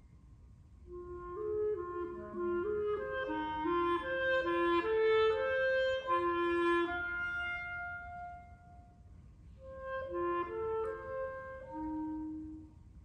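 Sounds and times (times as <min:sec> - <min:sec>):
clarinet playing held notes: 0:00.9 - 0:12.9.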